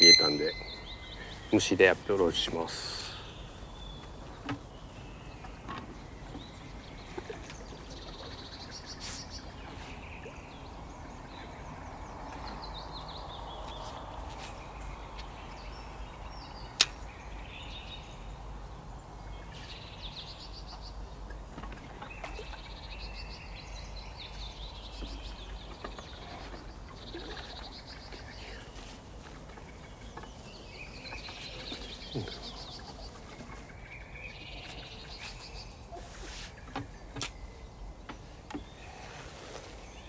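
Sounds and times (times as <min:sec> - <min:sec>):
wild birds singing: 0:00.0 - 0:40.0.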